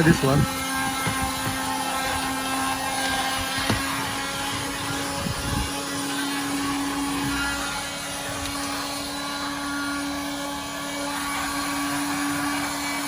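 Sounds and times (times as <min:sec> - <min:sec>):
car vacuum motor hum: 0:00.0 - 0:13.0.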